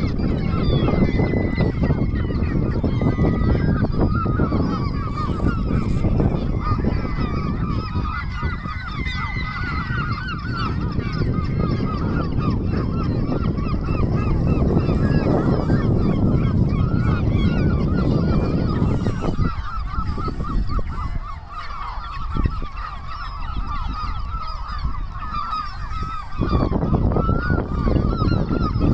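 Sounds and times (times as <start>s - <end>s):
flock of birds honking: 0.0s - 28.9s.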